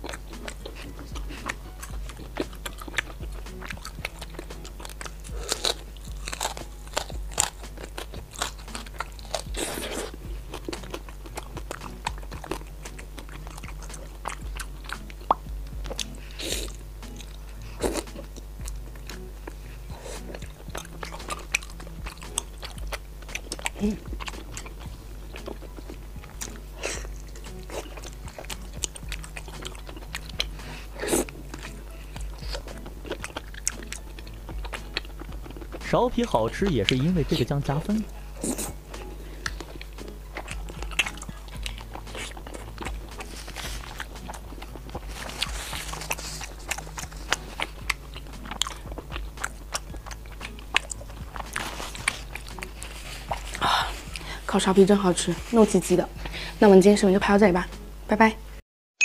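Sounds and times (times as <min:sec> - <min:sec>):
crunching bites: 0:00.0 - 0:54.4
chewing: 0:00.0 - 0:56.8.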